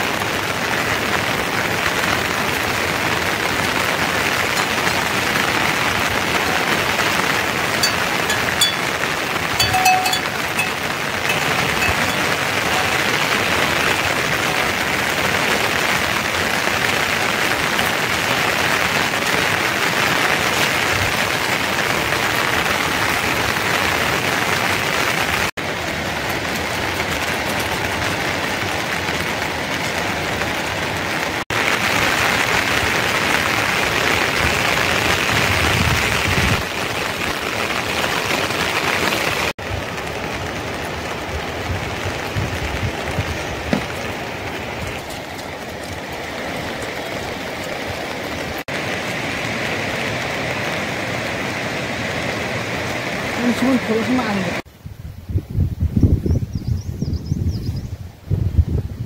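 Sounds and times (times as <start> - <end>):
steady rain falling: 0.0 - 54.8.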